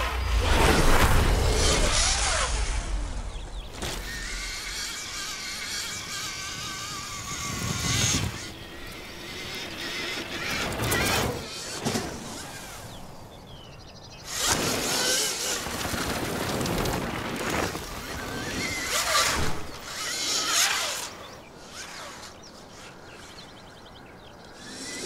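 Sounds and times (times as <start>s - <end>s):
electric motor whine: 0.0s - 13.3s, 16.6s - 23.8s, 24.4s - 25.0s
knobby tyres and chain on dirt: 0.0s - 25.0s.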